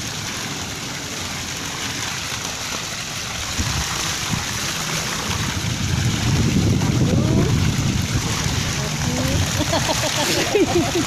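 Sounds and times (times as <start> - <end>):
pool water rushing hiss: 0.0 - 11.0
swimmer splashing: 0.0 - 11.0.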